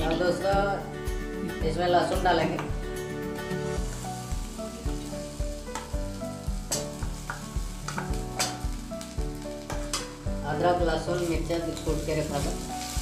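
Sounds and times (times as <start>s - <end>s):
background music with steady beat: 0.0s - 13.0s
onion sizzling in hot oil: 0.0s - 13.0s.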